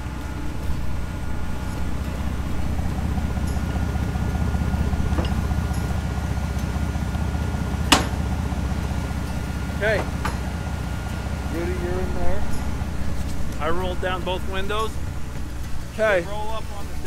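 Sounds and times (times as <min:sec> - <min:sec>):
snowcat engine idling: 0:00.0 - 0:17.0.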